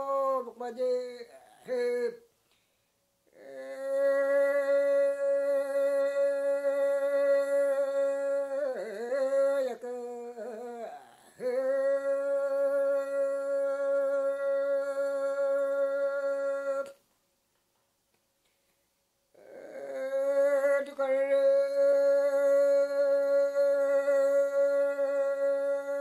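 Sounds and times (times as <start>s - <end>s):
person chanting solo: 0.0s - 2.2s, 3.3s - 17.0s, 19.4s - 26.0s.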